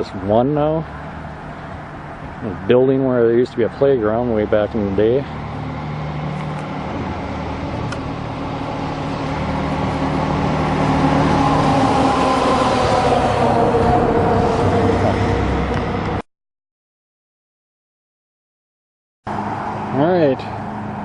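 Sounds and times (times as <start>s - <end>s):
car engine and road noise: 0.0s - 16.3s, 19.3s - 21.0s.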